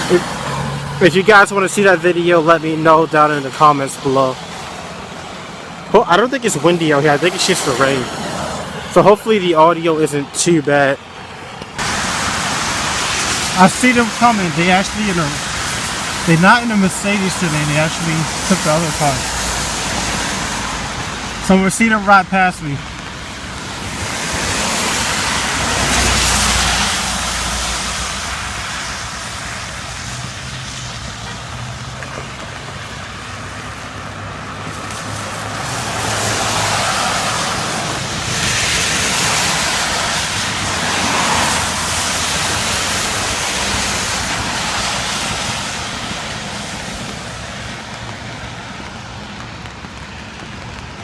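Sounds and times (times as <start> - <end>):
cars passing on wet road: 0.0 - 51.0
steady rain: 0.0 - 51.0.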